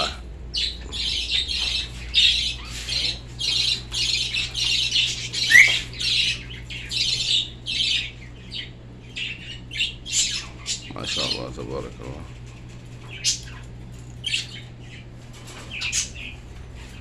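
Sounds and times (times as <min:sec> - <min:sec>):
birds squawking and chirping: 0:00.0 - 0:17.0
steady low hum: 0:00.0 - 0:17.0.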